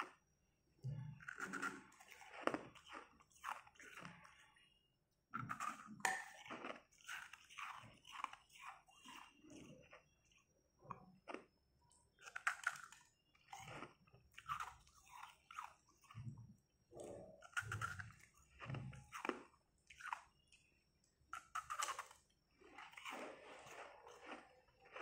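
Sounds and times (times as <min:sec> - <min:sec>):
chewing: 0:00.8 - 0:04.6, 0:05.4 - 0:25.0.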